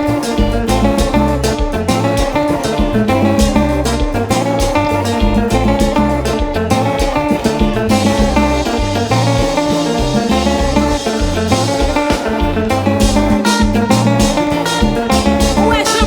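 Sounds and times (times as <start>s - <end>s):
bass guitar: 0.0s - 16.0s
drum kit: 0.0s - 16.0s
lead guitar: 0.0s - 16.0s.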